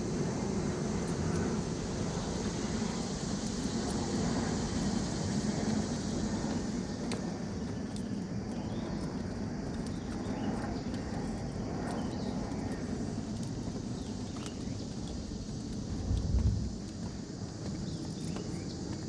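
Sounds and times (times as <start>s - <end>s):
footsteps on a trail: 0.0s - 19.0s
insects calling: 0.0s - 19.0s.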